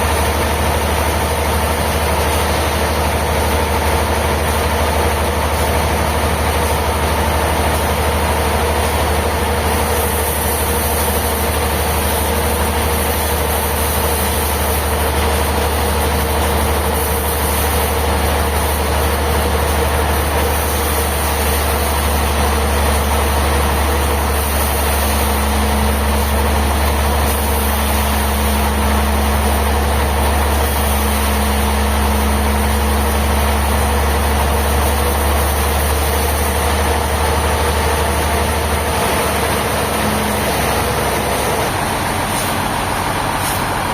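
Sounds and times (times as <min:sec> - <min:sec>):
sawmill machinery drone: 0:00.0 - 0:43.9.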